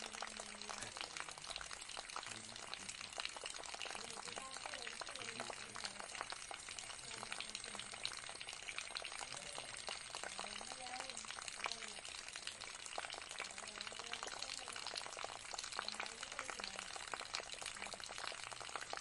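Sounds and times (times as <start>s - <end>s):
fountain water trickling: 0.0s - 19.0s.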